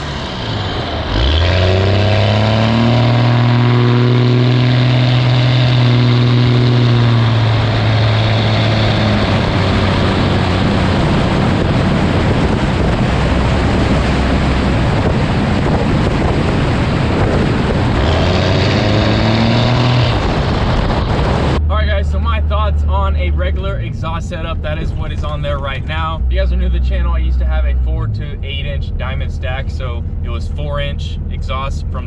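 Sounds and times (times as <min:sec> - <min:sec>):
diesel truck engine drone: 0:00.0 - 0:32.0
exhaust rushing noise: 0:00.0 - 0:32.0.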